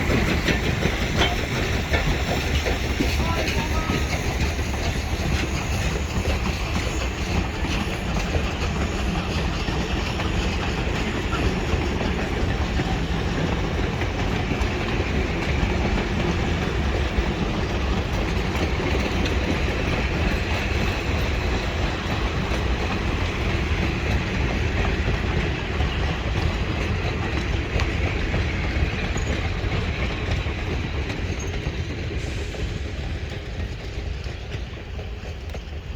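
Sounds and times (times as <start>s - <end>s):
steel wheels clicking over rail joints: 0.0s - 35.9s
train rolling past: 0.0s - 35.9s.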